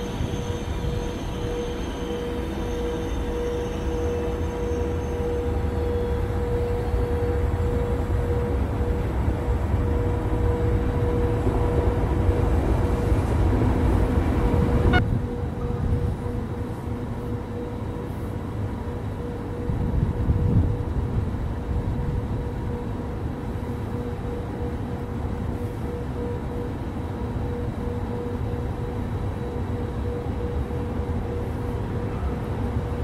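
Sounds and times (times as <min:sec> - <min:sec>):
station ambience: 0:00.0 - 0:33.0
train rumbling along tracks: 0:00.0 - 0:33.0.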